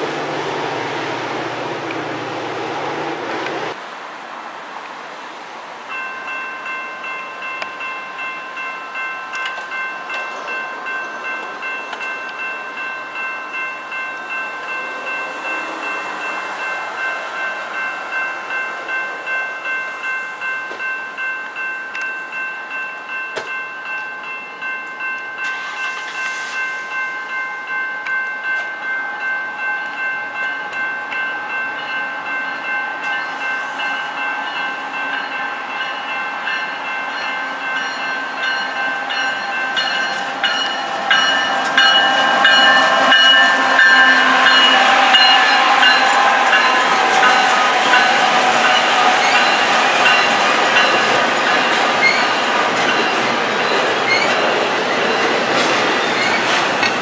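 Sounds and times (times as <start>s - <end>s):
freight train approaching: 0.0s - 57.0s
crossing warning bells ringing: 5.8s - 57.0s.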